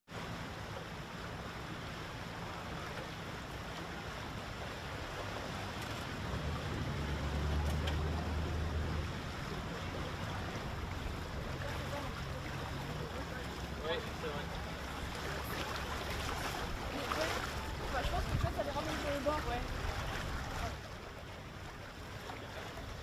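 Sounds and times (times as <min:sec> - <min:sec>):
low engine hum: 0:00.0 - 0:23.0
water washing and sloshing: 0:00.0 - 0:23.0.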